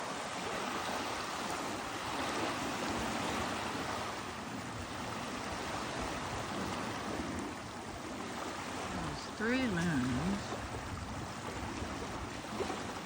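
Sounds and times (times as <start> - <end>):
lakeside water rushing: 0.0 - 13.0
wind: 0.0 - 13.0.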